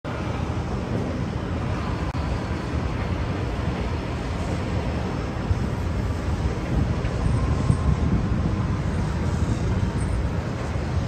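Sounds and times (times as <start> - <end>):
traffic and machinery hum: 0.0 - 11.0.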